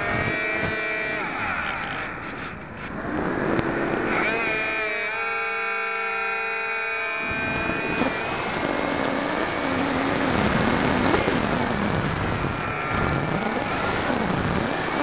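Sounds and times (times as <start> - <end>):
electric motor and propeller whine: 0.0 - 15.0.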